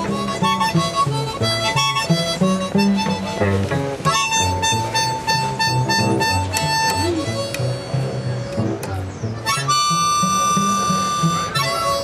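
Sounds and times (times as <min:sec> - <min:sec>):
cello bass line: 0:00.0 - 0:12.0
harmonica melody: 0:00.0 - 0:12.0.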